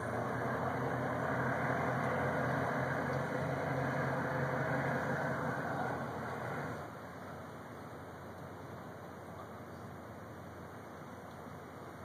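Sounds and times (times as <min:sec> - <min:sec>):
boat engines droning: 0:00.0 - 0:12.0
wash of noise: 0:00.0 - 0:12.0.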